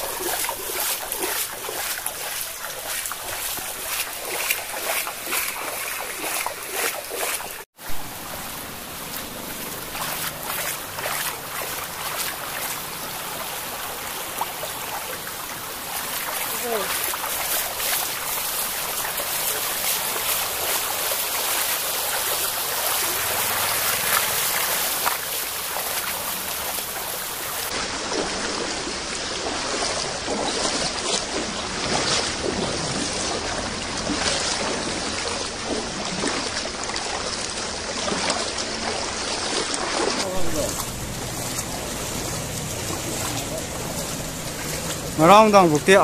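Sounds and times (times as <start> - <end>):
floodwater rushing: 0.0 - 46.0.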